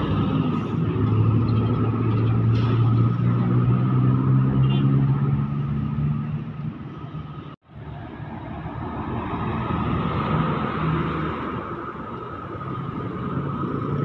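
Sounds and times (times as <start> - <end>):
passing vehicle engines: 0.0 - 14.0.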